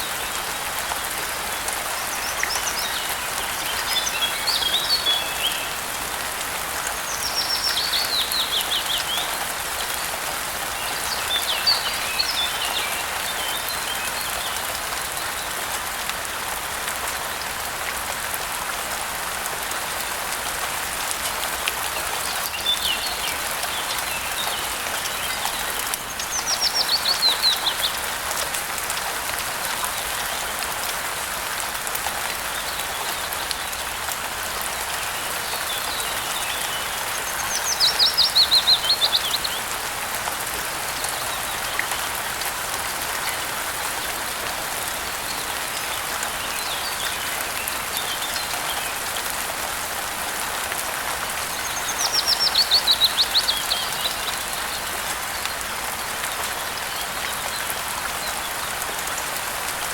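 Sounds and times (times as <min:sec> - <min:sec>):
songbirds calling: 0:00.0 - 0:15.8, 0:21.1 - 0:49.8, 0:50.5 - 0:59.4
rain hiss: 0:00.0 - 0:59.9.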